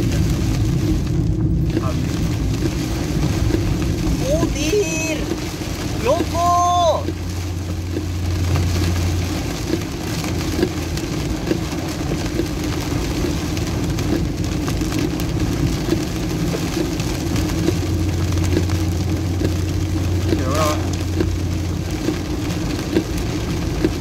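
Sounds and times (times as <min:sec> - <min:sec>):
engine and tyre hum: 0:00.0 - 0:24.0
heavy rain on car roof: 0:00.0 - 0:24.0.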